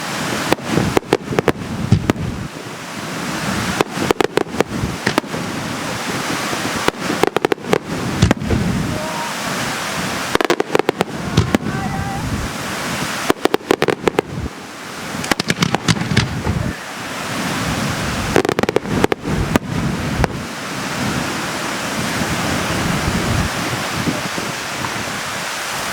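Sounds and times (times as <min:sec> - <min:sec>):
fireworks bangs: 0:00.0 - 0:25.9
steady rushing noise: 0:00.0 - 0:25.9.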